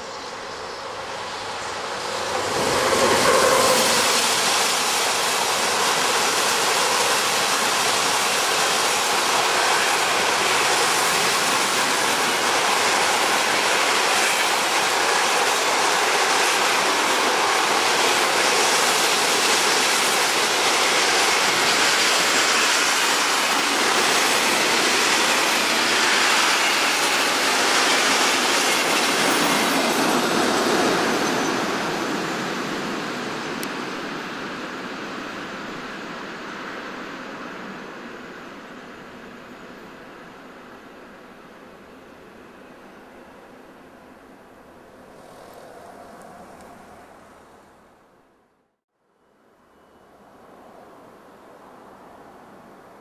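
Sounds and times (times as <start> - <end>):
locomotive passing at speed: 0.0 - 40.2, 44.4 - 48.2
train wheels rushing on rails: 0.0 - 48.0.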